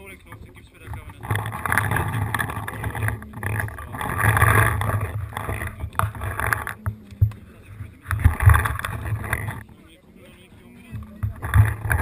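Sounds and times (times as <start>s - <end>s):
wind on camera microphone: 0.0s - 10.0s, 10.6s - 12.0s.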